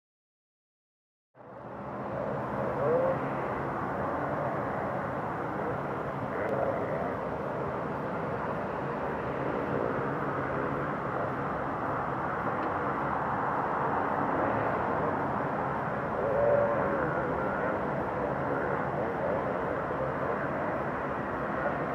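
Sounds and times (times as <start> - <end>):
distant jet engine noise: 1.4 - 21.9.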